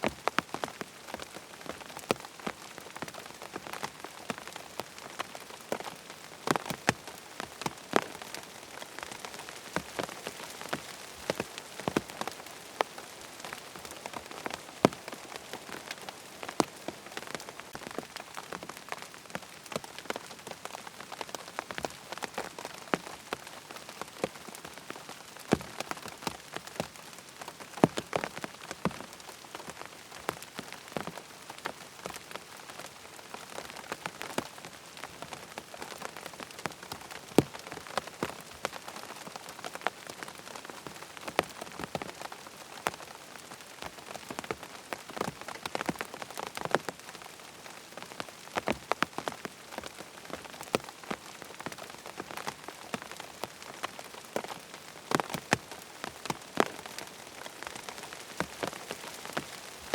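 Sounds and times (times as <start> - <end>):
rain hissing on a tent: 0.0 - 59.9
raindrops tapping on fabric: 0.0 - 59.9.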